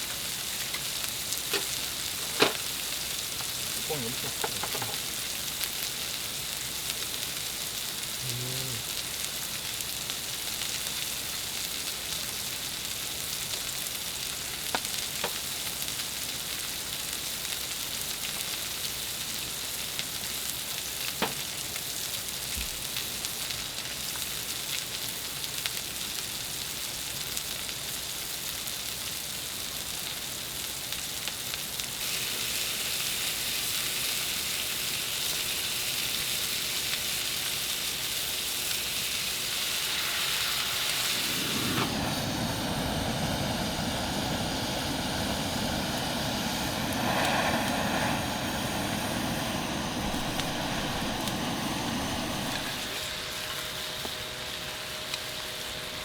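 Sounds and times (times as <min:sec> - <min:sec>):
food sizzling: 0:00.0 - 0:56.0.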